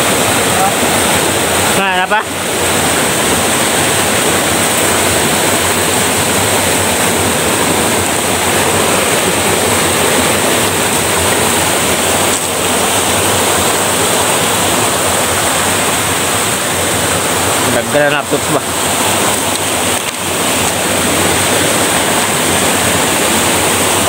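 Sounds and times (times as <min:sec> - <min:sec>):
stream rushing around legs: 0:00.0 - 0:24.0.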